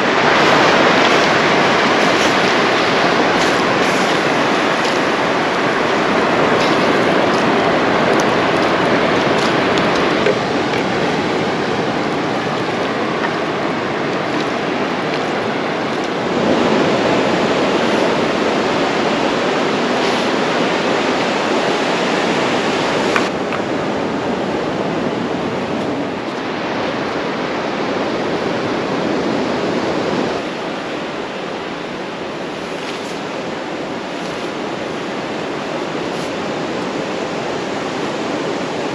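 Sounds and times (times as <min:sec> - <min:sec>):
ocean surf washing on beach: 0:00.0 - 0:38.9.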